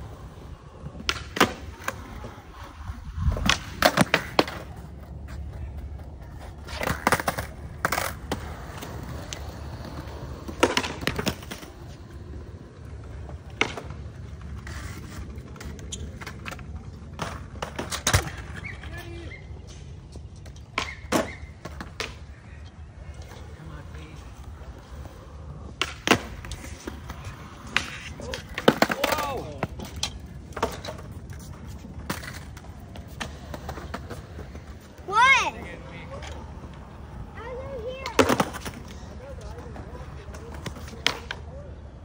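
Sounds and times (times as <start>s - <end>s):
skateboard clacks: 0.0s - 22.4s, 23.2s - 42.0s
skateboard wheels rolling on concrete: 0.0s - 42.0s.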